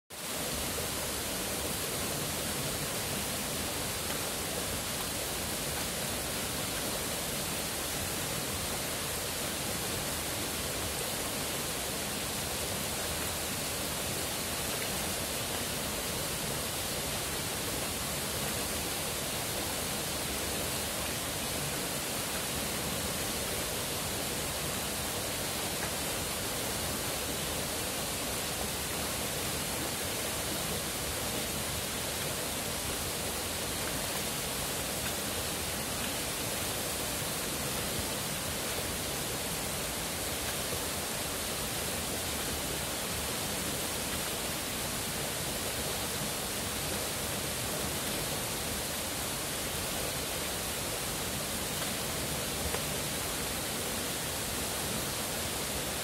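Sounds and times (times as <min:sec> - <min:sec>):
stream water rushing: 0:00.1 - 0:56.0.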